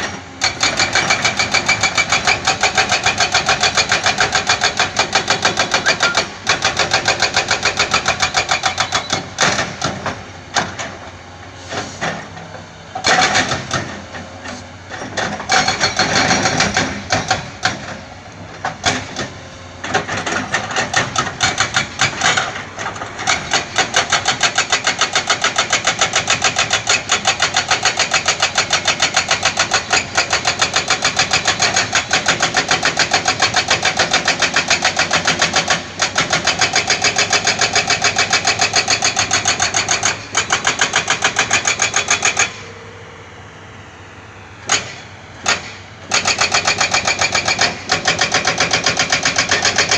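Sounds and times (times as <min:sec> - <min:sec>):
heavy diesel engine pulsing: 0:00.0 - 0:49.9.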